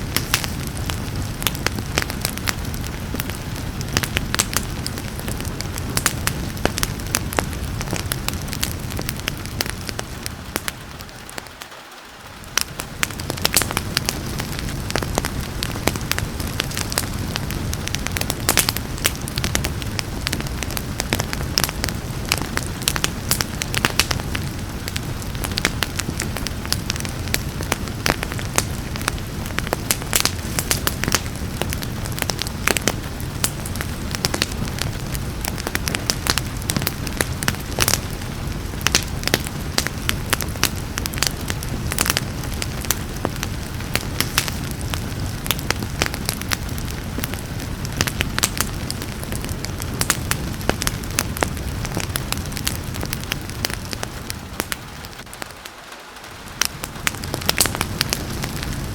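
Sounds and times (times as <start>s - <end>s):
rain hiss: 0.0s - 58.9s
wood fire crackling and popping: 0.0s - 58.9s.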